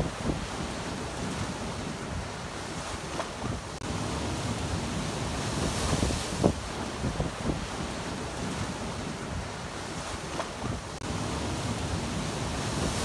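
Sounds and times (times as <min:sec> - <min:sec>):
surf breaking among boulders: 0:00.0 - 0:13.0
wind on microphone: 0:00.0 - 0:13.0.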